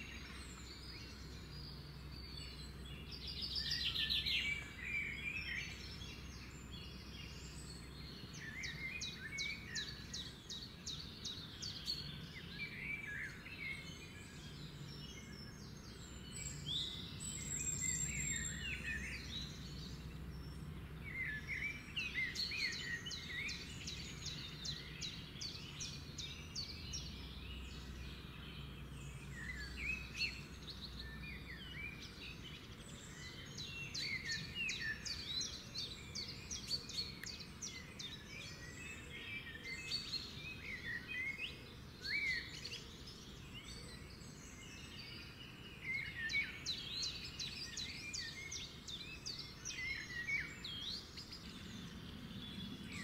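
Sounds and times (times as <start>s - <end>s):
songbirds singing and calling: 0.0s - 53.0s.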